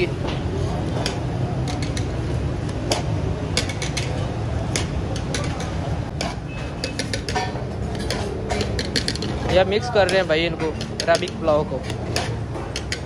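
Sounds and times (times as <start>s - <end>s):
metal ladle scraping cooking pot: 0.5s - 13.0s.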